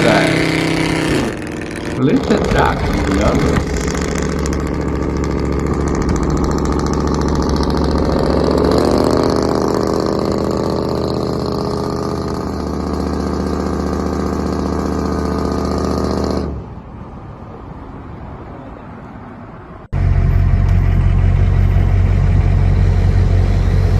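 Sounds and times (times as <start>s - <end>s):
truck engine running: 0.0s - 16.8s, 19.9s - 23.9s.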